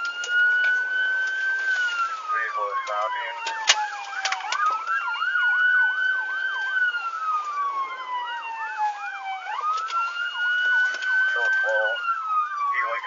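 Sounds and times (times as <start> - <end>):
police siren wail: 0.0 - 13.0
police siren yelp: 0.0 - 13.0.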